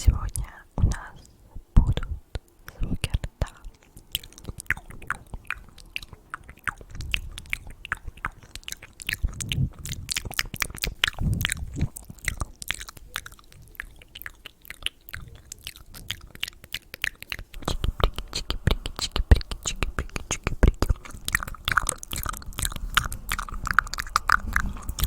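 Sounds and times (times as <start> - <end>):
wet mouth clicks and smacks: 1.9 - 25.0.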